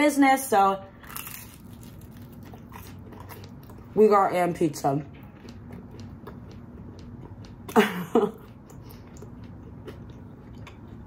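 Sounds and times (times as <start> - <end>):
person chewing pizza: 0.9 - 11.0.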